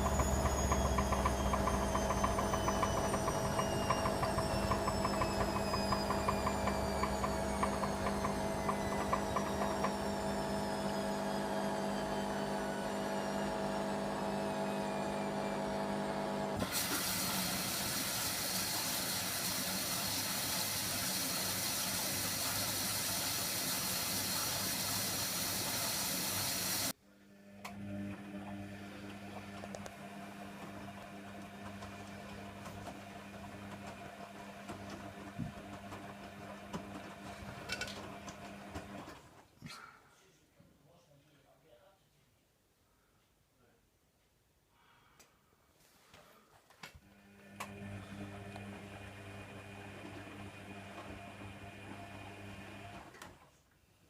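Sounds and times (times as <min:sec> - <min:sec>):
washer dryer motor hum: 0:00.0 - 0:39.3, 0:47.0 - 0:53.4.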